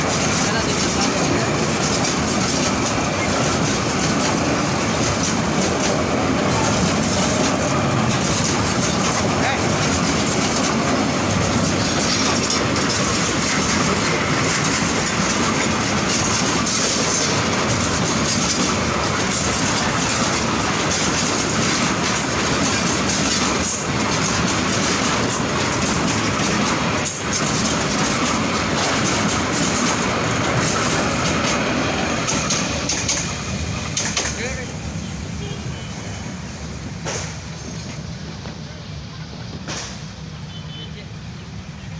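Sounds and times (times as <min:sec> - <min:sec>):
train wheels rolling on rails: 0:00.0 - 0:41.9.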